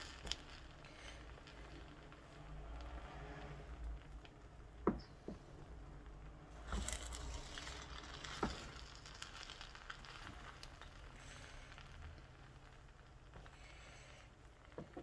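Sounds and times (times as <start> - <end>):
rice sizzling: 0.0 - 15.0.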